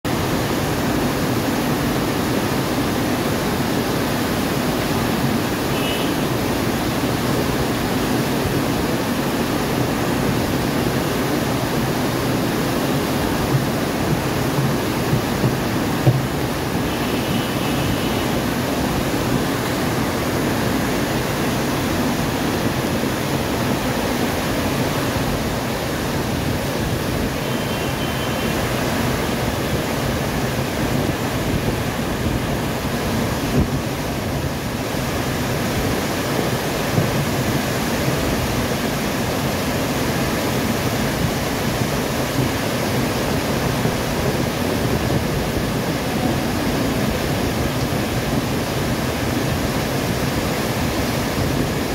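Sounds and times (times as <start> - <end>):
floodwater rushing: 0.1 - 51.9.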